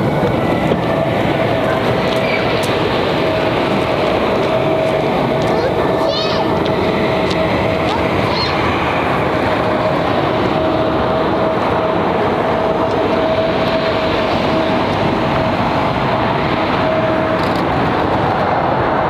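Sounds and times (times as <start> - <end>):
jet engine rumble: 0.0 - 19.0
steady whining tone: 0.0 - 19.0.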